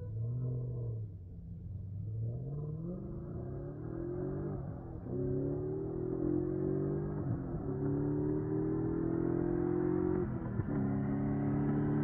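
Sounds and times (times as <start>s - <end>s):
car engine accelerating hard: 2.1s - 12.0s.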